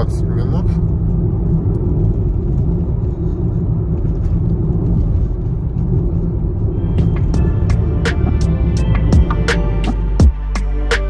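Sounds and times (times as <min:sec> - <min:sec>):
car interior rumble: 0:00.0 - 0:10.3.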